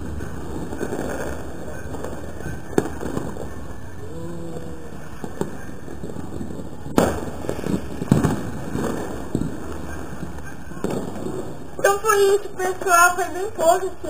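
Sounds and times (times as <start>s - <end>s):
firecracker bangs: 0.0s - 4.0s, 4.8s - 13.8s.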